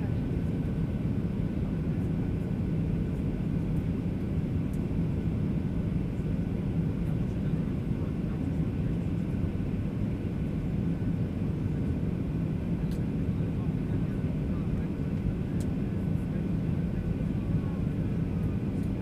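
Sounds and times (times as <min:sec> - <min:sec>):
airliner cabin rumble: 0:00.0 - 0:19.0.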